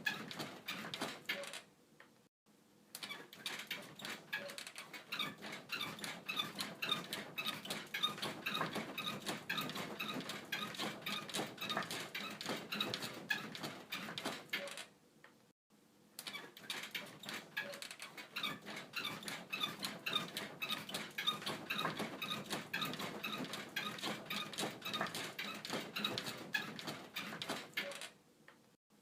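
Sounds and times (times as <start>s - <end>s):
bed frame creaking and squeaking: 0.0s - 1.7s, 3.0s - 14.9s, 16.2s - 28.2s.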